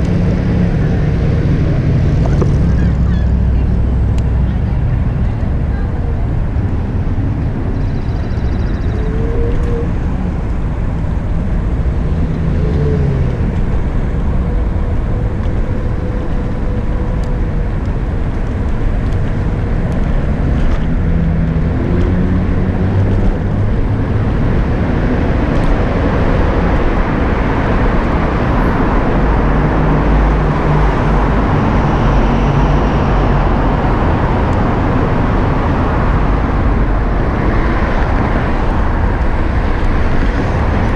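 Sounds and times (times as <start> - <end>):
road and traffic noise: 0.0 - 40.9
wind rushing over microphone: 0.0 - 40.9.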